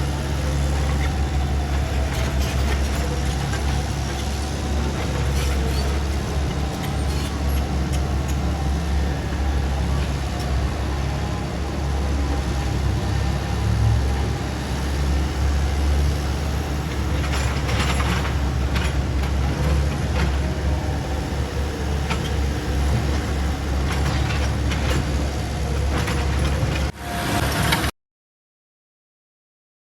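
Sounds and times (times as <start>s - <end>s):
excavator diesel engine rumbling: 0.0s - 27.9s.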